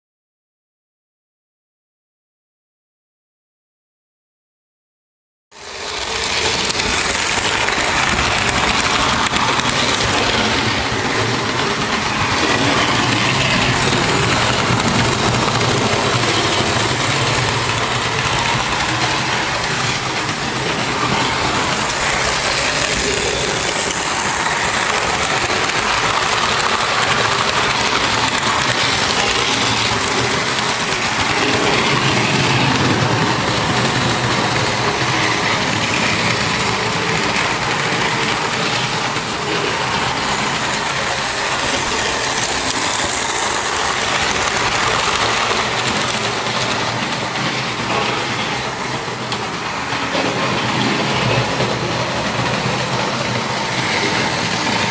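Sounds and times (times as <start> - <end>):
model trains on metal track: 5.5 - 54.9.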